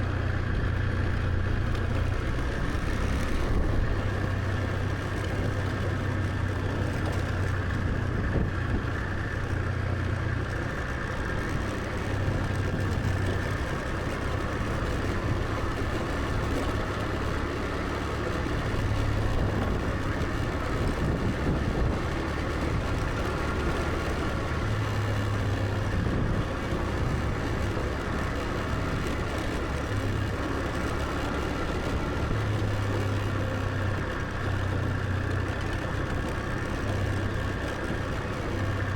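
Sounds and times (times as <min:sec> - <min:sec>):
motor scooter engine hum: 0:00.0 - 0:38.9
road and wind noise: 0:00.0 - 0:38.9.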